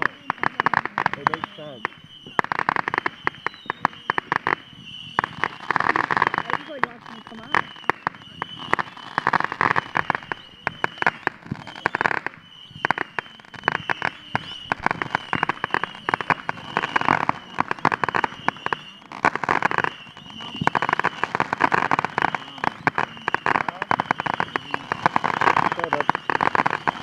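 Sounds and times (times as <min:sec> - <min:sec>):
fireworks cracking and popping: 0:00.0 - 0:27.0.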